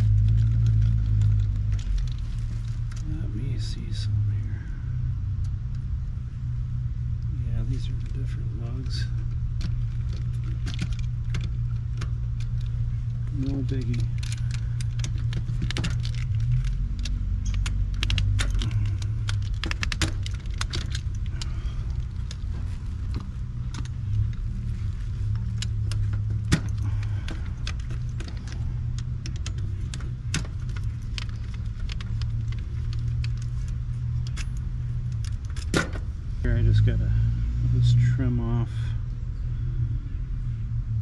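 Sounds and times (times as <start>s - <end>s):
metallic clicks and jingling of wires: 0.0s - 3.9s, 7.6s - 36.8s
steady low rumble: 0.0s - 41.0s.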